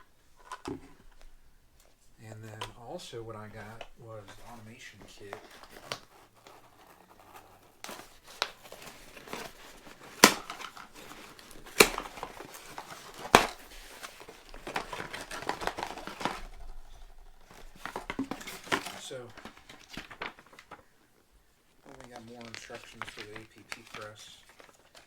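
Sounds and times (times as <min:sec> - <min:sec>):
packaging crinkling: 0:02.4 - 0:25.0
packaging ripping: 0:03.4 - 0:20.9, 0:21.8 - 0:25.0.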